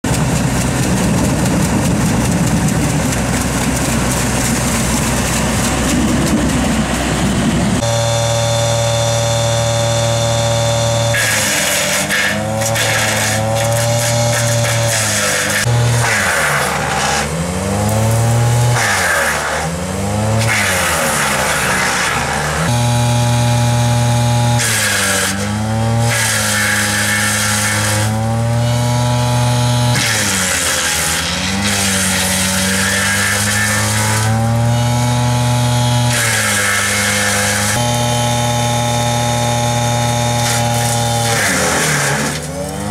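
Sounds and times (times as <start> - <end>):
engine running under load: 0.0 - 42.9
wood chipper humming: 0.0 - 42.9.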